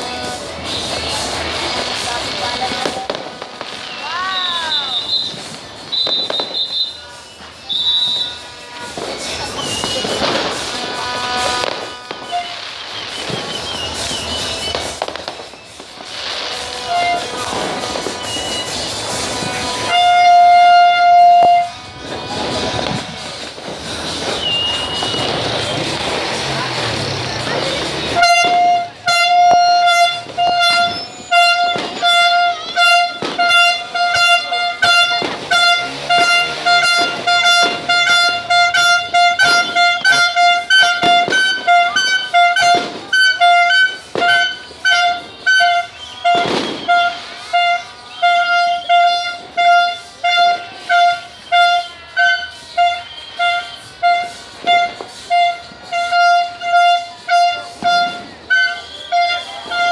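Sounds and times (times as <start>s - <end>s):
vehicle horn beeping: 0.0s - 15.4s, 16.1s - 59.9s
fireworks banging and cracking: 0.0s - 59.9s.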